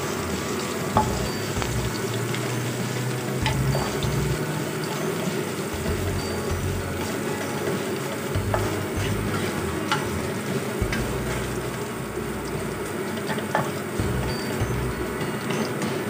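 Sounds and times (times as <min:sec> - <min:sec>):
ginger and garlic sizzling in oil: 0:00.0 - 0:16.0.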